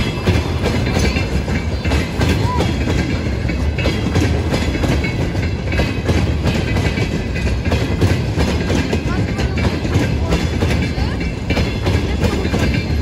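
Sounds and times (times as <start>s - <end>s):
train wagons rumbling past: 0.0s - 13.0s
wheels clattering over rail joints: 0.0s - 13.0s.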